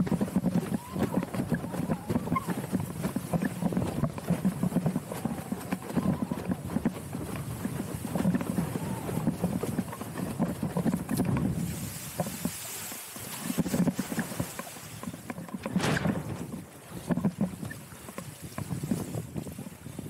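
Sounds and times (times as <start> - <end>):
board hull slapping water: 0.0 - 20.0.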